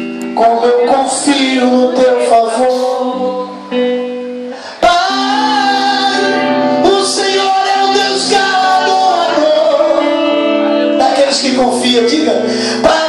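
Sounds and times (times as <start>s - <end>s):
sustained instrumental chords: 0.0s - 13.0s
person singing worship song: 0.3s - 3.7s, 4.5s - 10.4s, 11.0s - 13.0s.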